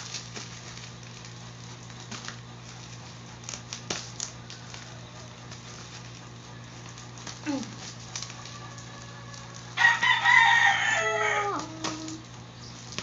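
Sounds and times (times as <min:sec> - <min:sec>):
cardboard box clicks and crinkles: 0:00.0 - 0:10.6
steady low hum: 0:00.0 - 0:13.0.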